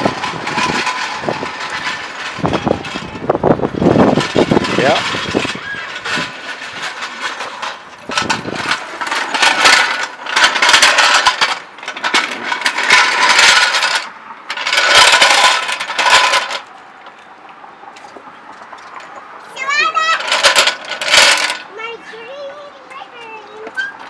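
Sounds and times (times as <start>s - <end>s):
hand tools clinking and rattling: 0.0s - 16.8s, 18.0s - 21.7s.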